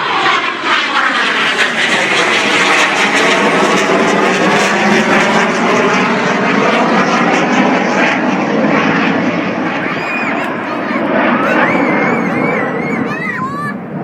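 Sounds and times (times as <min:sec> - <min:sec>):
aircraft flying past: 0:00.0 - 0:14.0.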